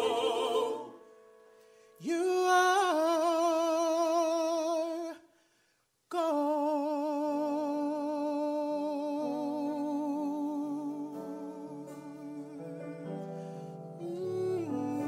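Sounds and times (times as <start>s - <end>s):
person singing with vibrato: 0.0s - 1.1s, 1.9s - 5.2s, 6.1s - 15.0s.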